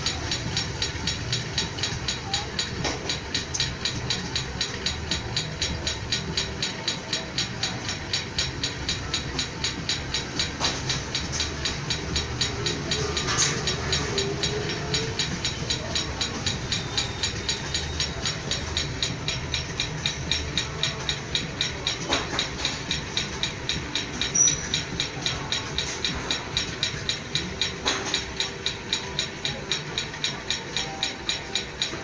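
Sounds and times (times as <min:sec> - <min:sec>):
steady mechanical clatter: 0:00.0 - 0:32.0.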